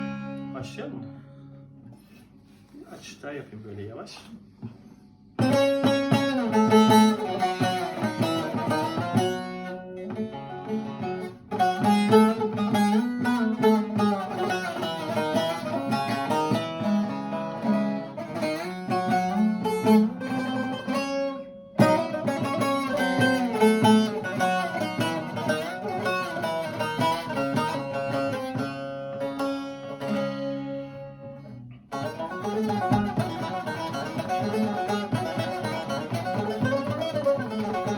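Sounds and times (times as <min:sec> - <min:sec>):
plucked string instrument: 0:00.0 - 0:02.7, 0:04.4 - 0:37.9.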